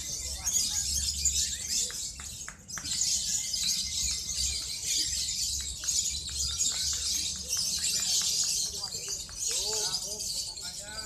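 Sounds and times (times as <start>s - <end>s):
lovebirds shrill chattering: 0.0s - 11.0s.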